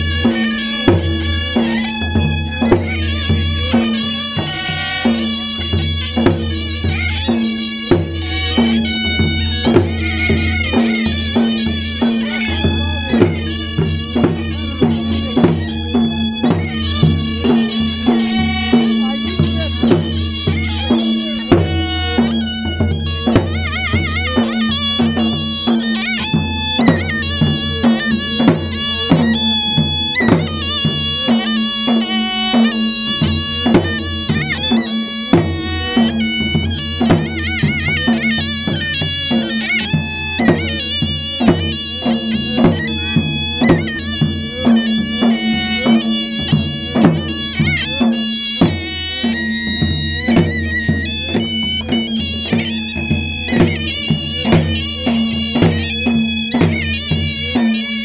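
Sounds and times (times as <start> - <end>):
barrel drums beating: 0.0 - 58.0
shawm playing reedy melody: 0.0 - 58.0.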